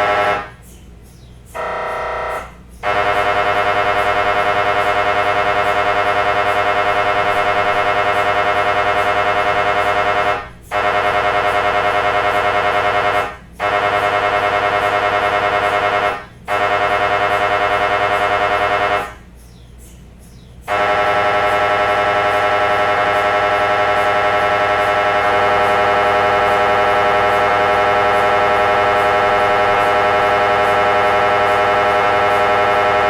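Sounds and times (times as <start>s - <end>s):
mri scanner pulsing buzz: 0.0s - 19.4s, 20.6s - 33.0s.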